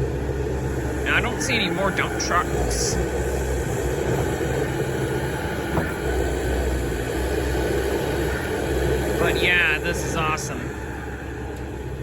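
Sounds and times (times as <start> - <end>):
excavator diesel engine running: 0.0 - 12.0
faint steady whine: 0.0 - 12.0.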